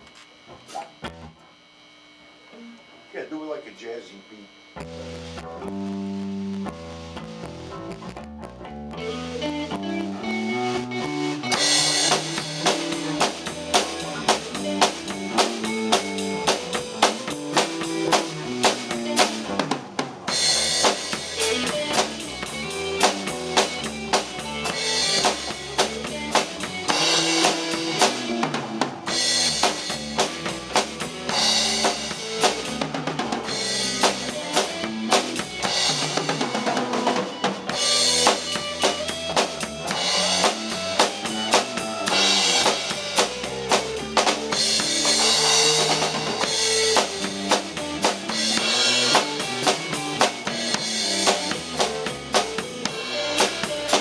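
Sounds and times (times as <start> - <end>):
drum kit beat: 4.8 - 54.0
live rock band playing: 4.8 - 54.0.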